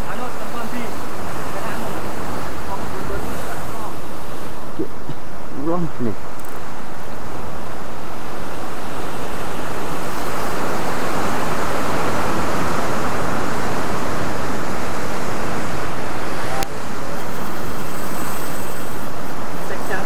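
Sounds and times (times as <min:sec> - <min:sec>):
waves breaking against cliff: 0:00.0 - 0:20.0.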